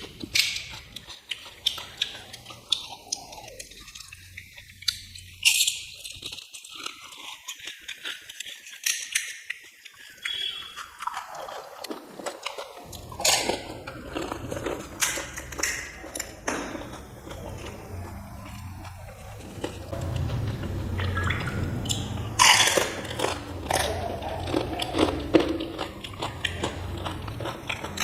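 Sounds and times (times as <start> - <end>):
wet mouth sounds: 0.0 - 20.0, 21.1 - 28.0
crisp shells crunching: 0.0 - 20.9, 21.6 - 28.0.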